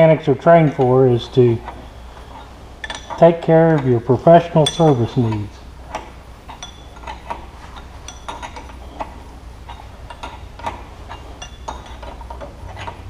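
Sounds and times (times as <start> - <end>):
low steady hum: 0.0 - 13.0
metallic clicks and clinks: 0.6 - 13.0.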